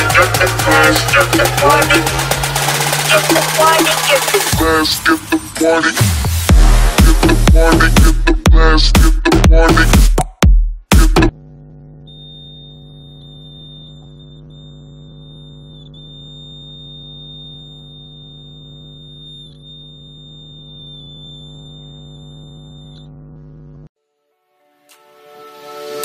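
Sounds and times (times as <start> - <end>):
electronic buzzer through speaker: 0.0 - 23.9.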